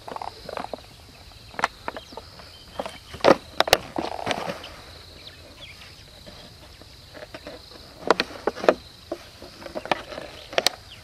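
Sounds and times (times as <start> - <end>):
high hum of insects: 0.0 - 11.0.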